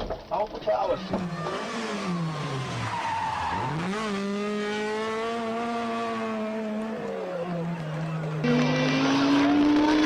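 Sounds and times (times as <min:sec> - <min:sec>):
rally car engine revving: 0:01.0 - 0:10.0.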